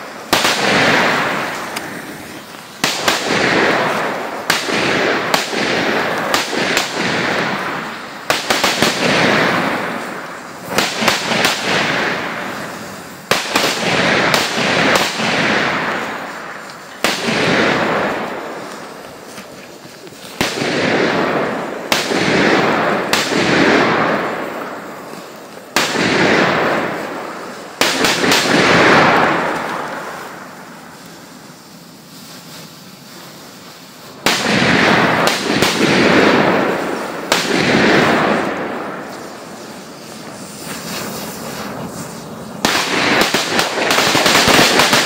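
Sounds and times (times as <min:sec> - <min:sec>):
firecracker bangs with echo: 0:00.0 - 0:32.5, 0:33.2 - 0:45.0
firecracker crackling: 0:00.0 - 0:45.0.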